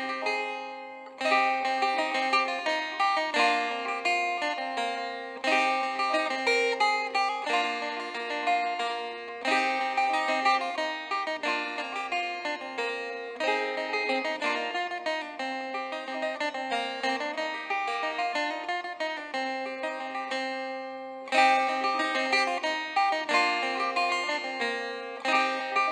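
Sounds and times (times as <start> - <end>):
plucked string instrument melody: 0.0 - 25.9.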